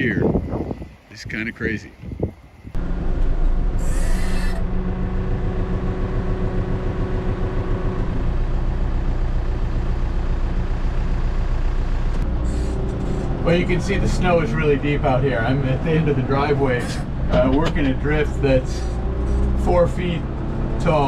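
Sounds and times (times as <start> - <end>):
tractor engine running: 2.6 - 21.0.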